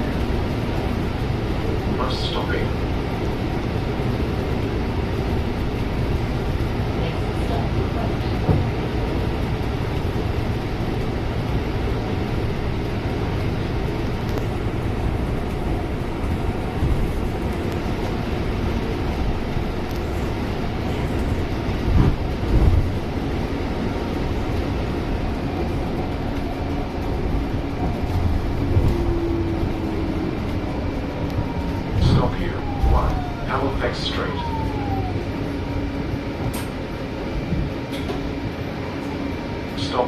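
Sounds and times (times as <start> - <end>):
bus engine rumble: 0.0 - 40.0.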